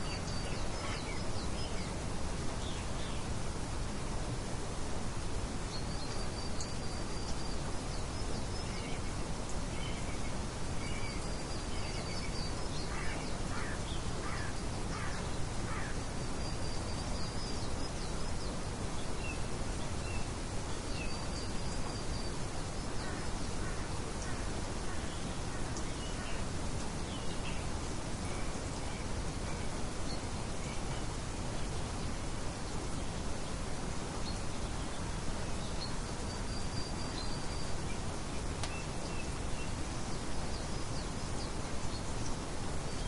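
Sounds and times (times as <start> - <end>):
wind-like noise: 0.0 - 43.0.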